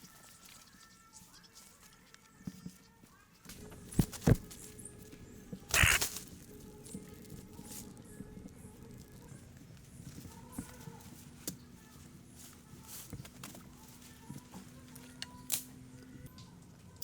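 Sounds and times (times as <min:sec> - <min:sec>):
low steady background noise: 0:00.0 - 0:17.0.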